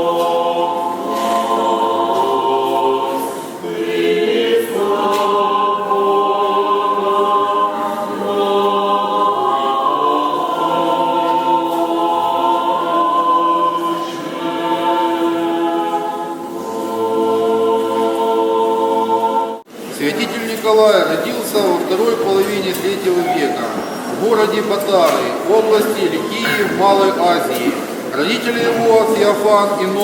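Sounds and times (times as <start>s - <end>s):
choir chanting: 0.0s - 19.7s, 21.4s - 30.0s.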